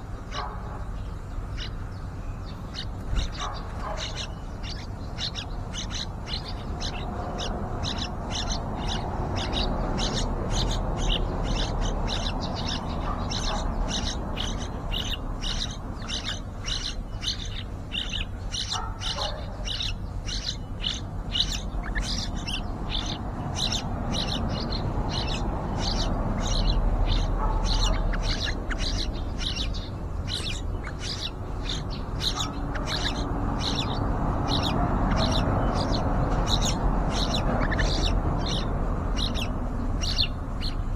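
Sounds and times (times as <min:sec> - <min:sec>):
nestlings begging with high chirps: 0:00.0 - 0:40.9.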